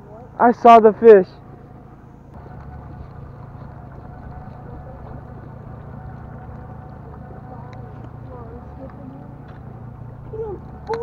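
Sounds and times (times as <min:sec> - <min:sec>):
boat motor humming: 0:00.1 - 0:11.0.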